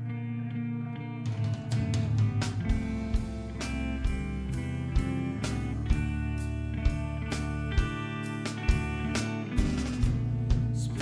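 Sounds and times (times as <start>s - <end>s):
ringing guitar notes: 0.0s - 11.0s
post-hardcore band playing: 1.0s - 11.0s
loud drum beat: 1.5s - 11.0s.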